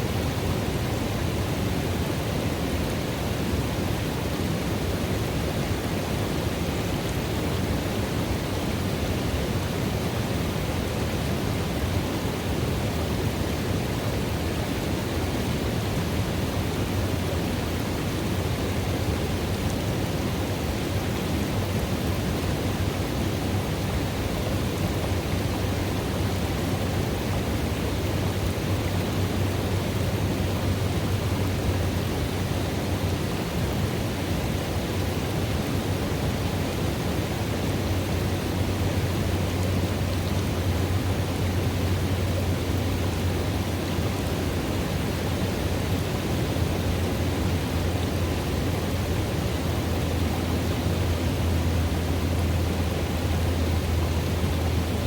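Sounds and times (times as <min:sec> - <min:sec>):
river water rushing into pool: 0:00.0 - 0:55.0.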